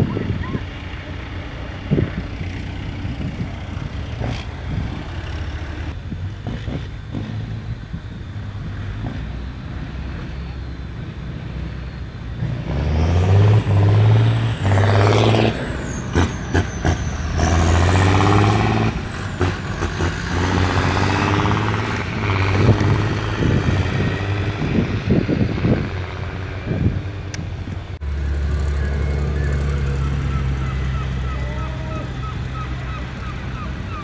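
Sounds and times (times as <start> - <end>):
tractor engines revving: 0.0 - 34.0.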